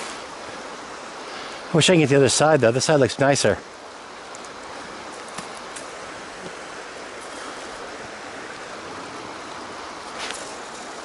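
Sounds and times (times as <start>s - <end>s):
brook rushing over stones: 0.0s - 11.0s.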